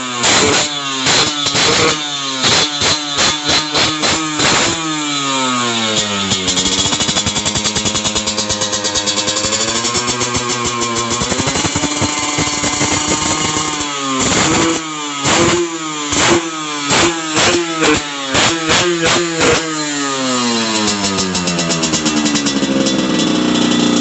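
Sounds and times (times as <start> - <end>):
go-kart engine revving: 0.0 - 24.0.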